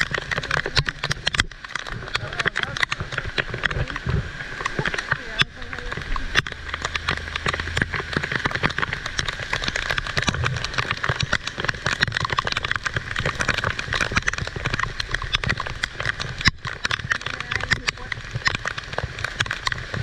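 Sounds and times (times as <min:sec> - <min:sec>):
heavy rain falling: 0:00.0 - 0:20.0
low rumble: 0:00.0 - 0:20.0.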